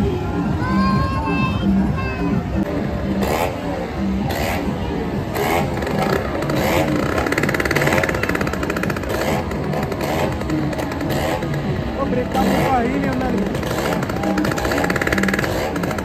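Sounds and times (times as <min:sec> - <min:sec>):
voices in background: 0:00.0 - 0:16.0
motorcycle engine revving: 0:01.7 - 0:16.0.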